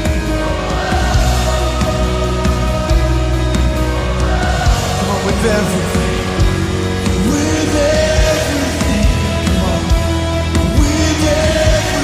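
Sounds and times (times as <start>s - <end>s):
distorted electric guitar: 0.0s - 12.0s
drums: 0.0s - 12.0s.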